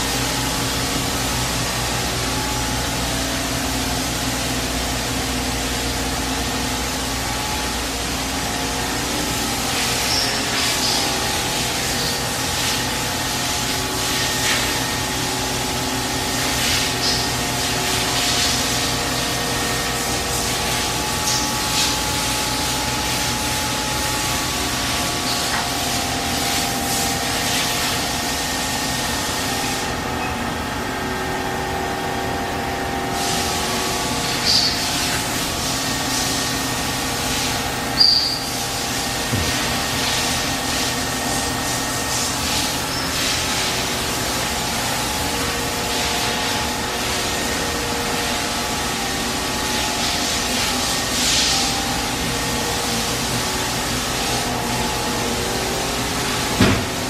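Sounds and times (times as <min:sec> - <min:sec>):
machinery humming: 0:00.0 - 0:57.0.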